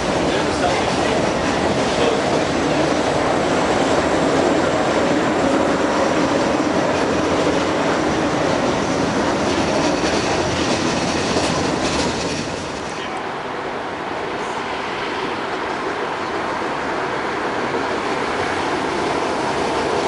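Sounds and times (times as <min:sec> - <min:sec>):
subway train wheels rumbling: 0:00.0 - 0:20.0.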